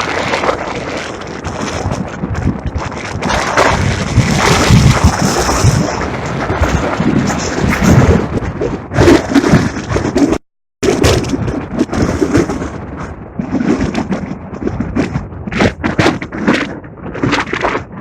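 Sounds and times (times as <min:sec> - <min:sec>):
gusty wind buffeting microphone: 0:00.0 - 0:18.0.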